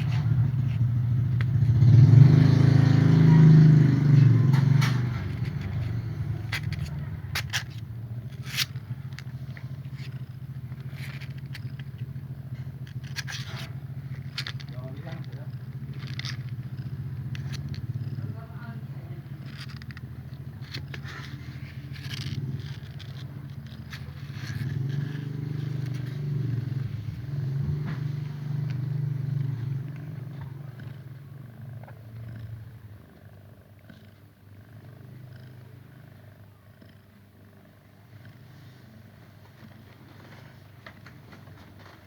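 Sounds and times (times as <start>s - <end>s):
cat purring: 0.0s - 42.0s.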